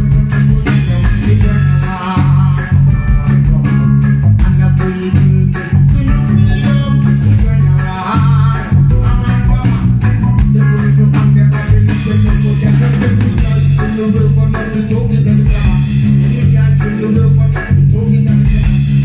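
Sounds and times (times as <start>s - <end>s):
drum kit: 0.0s - 19.0s
electric guitar: 0.0s - 19.0s
heavy bass line: 0.0s - 19.0s
man singing into microphone: 0.0s - 19.0s.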